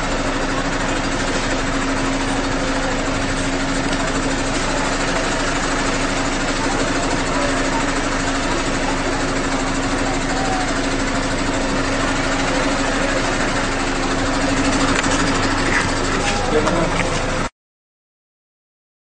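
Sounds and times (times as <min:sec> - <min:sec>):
ambulance engine idling: 0:00.0 - 0:17.5.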